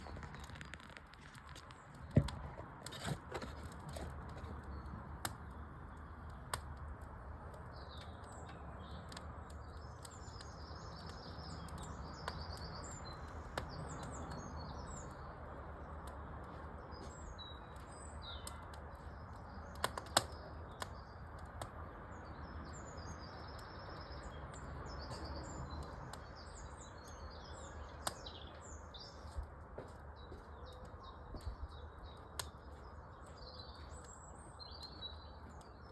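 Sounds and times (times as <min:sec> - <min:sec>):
small birds chirping: 0:00.0 - 0:35.9
wood fire crackling: 0:00.0 - 0:35.9.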